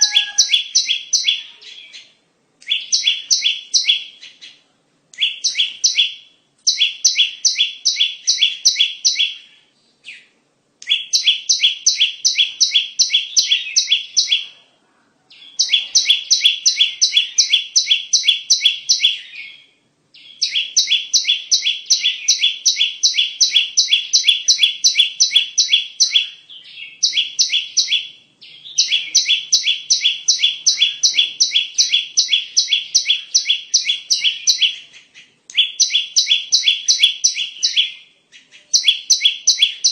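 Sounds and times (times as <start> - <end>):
bird song rapid sharp notes: 0.0 - 4.6, 5.2 - 14.4, 15.4 - 39.9.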